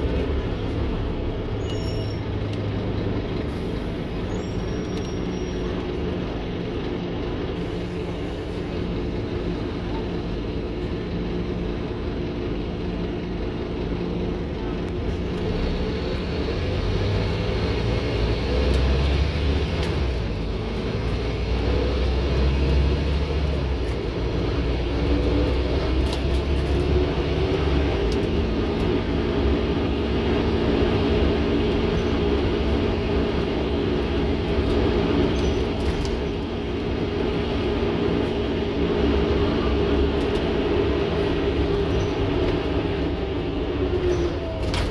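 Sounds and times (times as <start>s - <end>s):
bus engine low drone: 0.0s - 44.9s.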